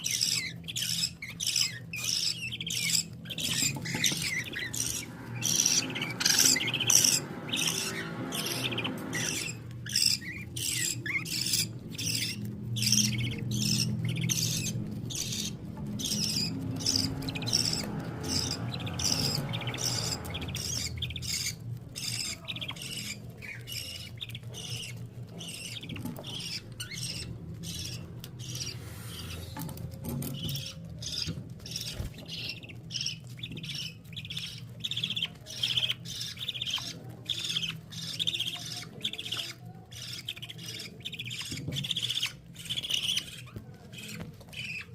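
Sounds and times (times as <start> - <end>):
baby birds cheeping: 0.0 - 44.9
low steady hum: 0.0 - 44.9.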